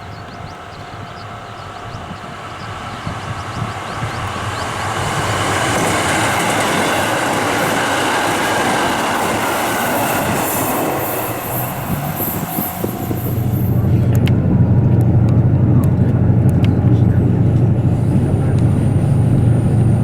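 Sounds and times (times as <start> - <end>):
train running at speed: 0.0 - 20.0.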